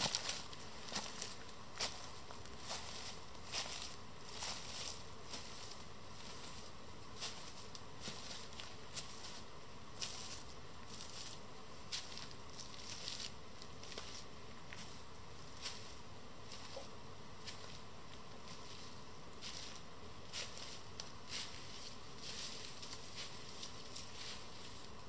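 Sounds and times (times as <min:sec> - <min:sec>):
dry leaves crackling: 0:00.0 - 0:25.0
faint steady hiss: 0:00.0 - 0:25.0.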